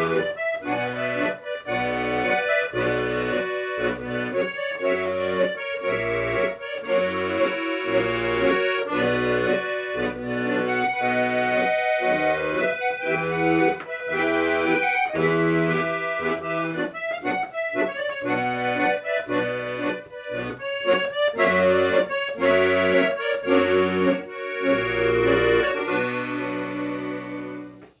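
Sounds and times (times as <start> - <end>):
accordion music: 0.0 - 28.0.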